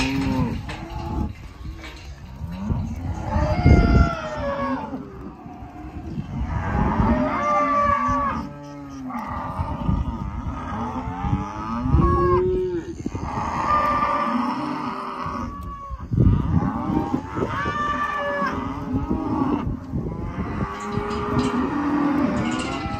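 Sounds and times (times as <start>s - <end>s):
calves mooing: 0.0s - 22.9s.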